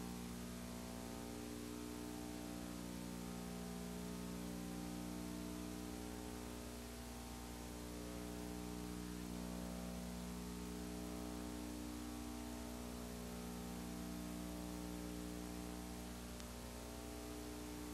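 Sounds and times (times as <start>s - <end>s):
constant hiss: 0.0s - 17.9s
electrical mains hum: 0.0s - 17.9s.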